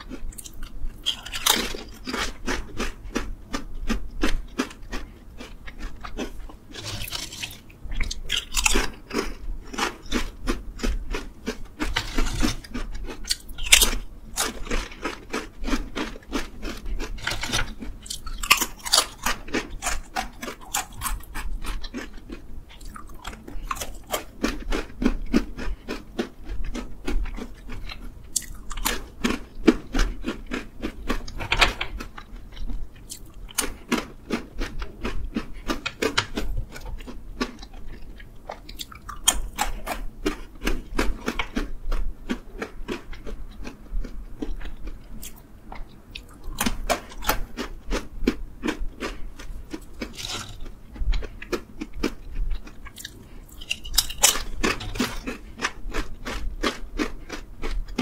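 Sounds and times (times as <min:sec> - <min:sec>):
crunching potato chips: 0:00.0 - 0:58.0.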